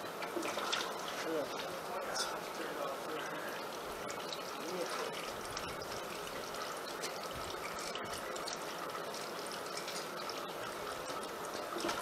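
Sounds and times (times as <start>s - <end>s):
fluid pouring into bucket: 0.0s - 12.0s.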